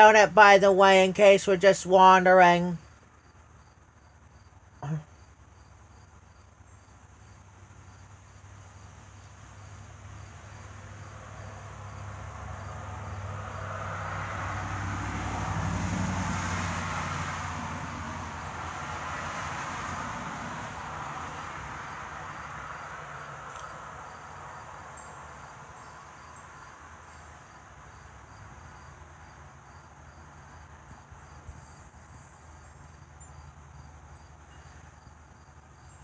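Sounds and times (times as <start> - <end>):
crickets chirping: 0.0 - 14.9, 19.0 - 36.0.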